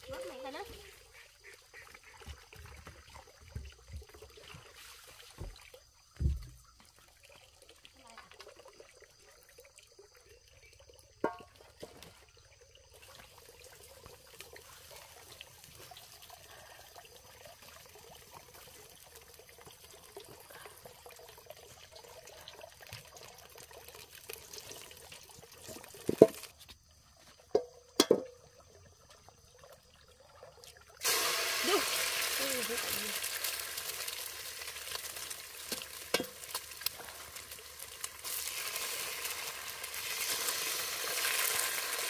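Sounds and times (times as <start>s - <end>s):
faint trickling water: 0.0s - 42.0s.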